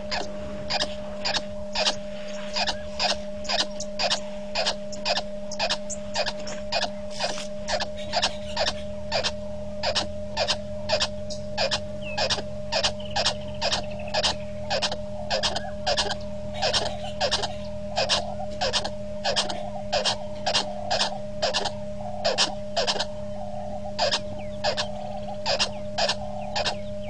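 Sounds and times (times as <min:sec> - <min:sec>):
frogs clicking calls: 0:00.0 - 0:27.0
low hum: 0:00.0 - 0:27.0.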